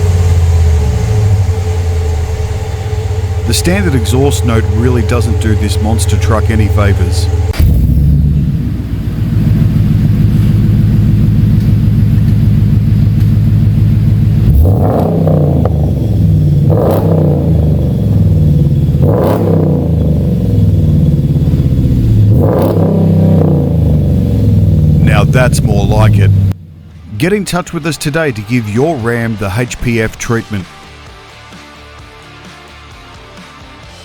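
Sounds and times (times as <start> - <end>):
engine exhaust idling and revving: 0.0 - 31.1.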